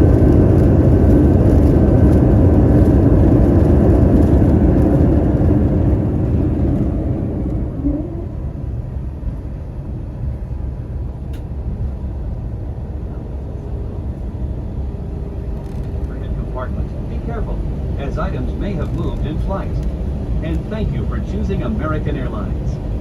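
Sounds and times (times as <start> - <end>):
rising whine: 0.0 - 10.0, 12.8 - 23.0
jet cabin roar: 0.0 - 23.0.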